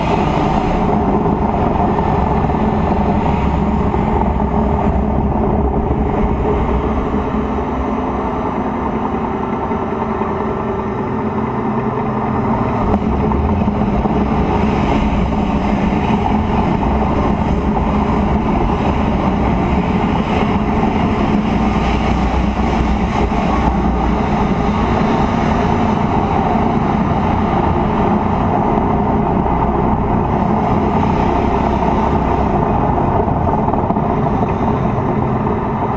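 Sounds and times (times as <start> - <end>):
tank diesel engine running: 0.0 - 35.9.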